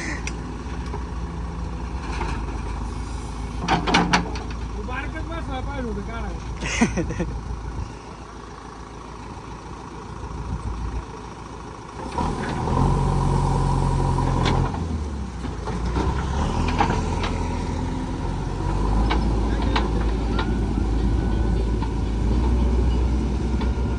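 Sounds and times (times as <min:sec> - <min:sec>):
vehicle diesel engine running: 0:00.0 - 0:23.9.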